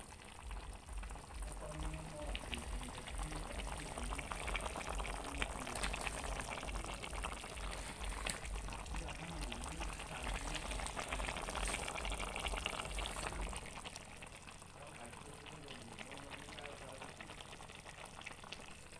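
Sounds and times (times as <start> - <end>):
curry bubbling in a pan: 0.0 - 18.9.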